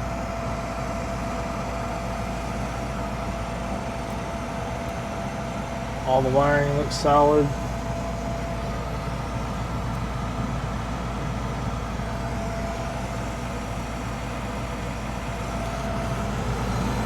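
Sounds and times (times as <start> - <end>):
faint constant whine: 0.0 - 17.0
furnace fans humming: 0.0 - 17.0.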